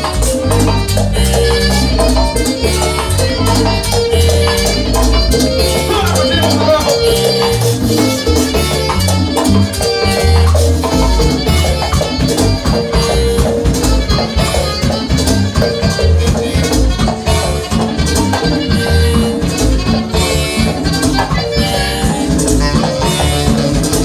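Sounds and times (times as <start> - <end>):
accordion: 0.0 - 24.0
electric bass: 0.0 - 24.0
keyboard: 0.0 - 24.0
saxophone: 0.0 - 24.0
steady percussion: 0.0 - 24.0.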